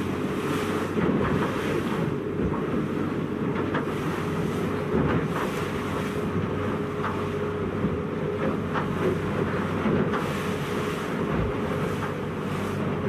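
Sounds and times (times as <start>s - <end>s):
boat engine droning: 0.0s - 13.0s
water splashing against hull: 0.0s - 13.0s.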